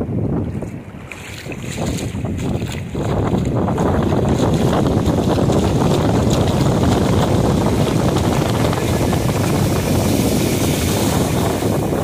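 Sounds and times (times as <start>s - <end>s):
wind noise on microphone: 0.0s - 12.0s
surf washing over sand: 0.6s - 12.0s.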